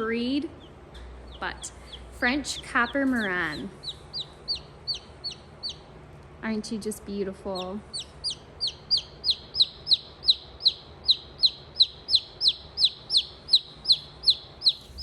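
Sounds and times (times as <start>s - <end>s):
chick peeping: 0.5s - 6.0s, 7.6s - 15.0s.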